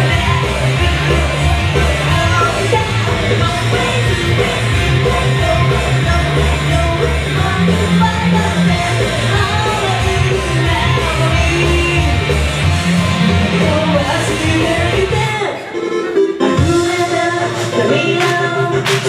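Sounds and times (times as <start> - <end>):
woman singing into a microphone: 0.0 - 12.3, 13.5 - 15.6, 16.5 - 19.0
backing music with pulsing bass: 0.0 - 19.0.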